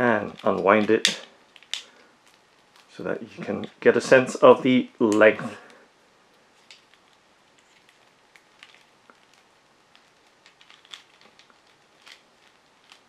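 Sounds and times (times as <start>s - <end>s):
cable ticking and crinkling: 0.0s - 13.0s.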